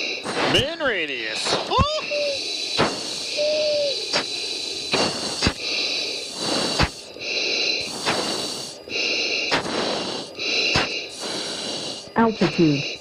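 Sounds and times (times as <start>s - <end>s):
heavy breathing through mask: 0.0s - 13.0s.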